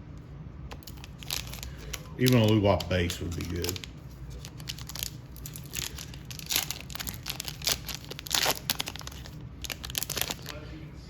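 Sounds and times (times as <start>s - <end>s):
cards rustling: 0.7s - 10.6s.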